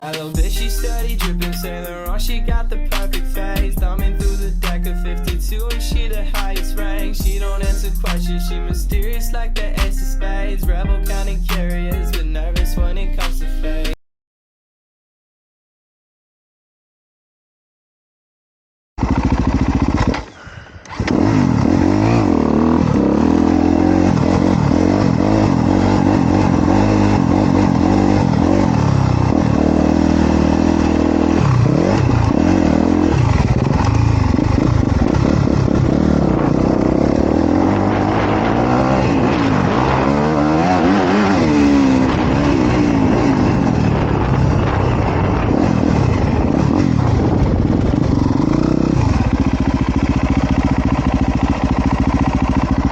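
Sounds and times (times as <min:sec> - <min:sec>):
motorcycle engine revving: 0:00.4 - 0:10.0, 0:19.0 - 0:52.9.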